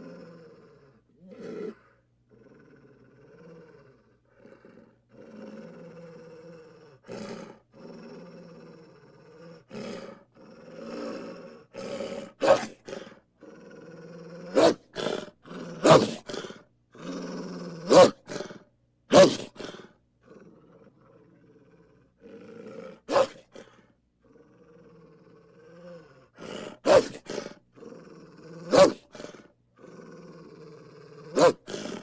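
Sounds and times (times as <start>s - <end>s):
wolf growling: 0.0s - 32.0s
wolf snarling: 0.0s - 32.0s.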